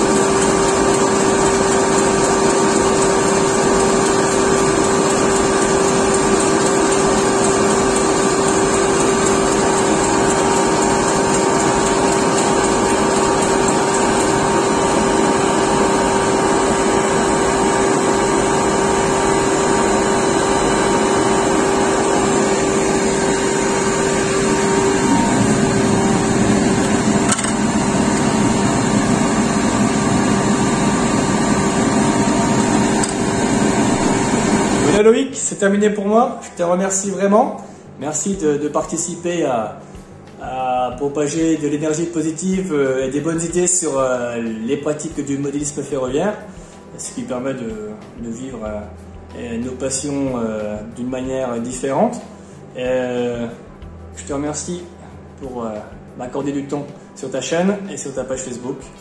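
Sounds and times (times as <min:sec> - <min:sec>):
extraction fan humming: 0:00.0 - 0:59.0.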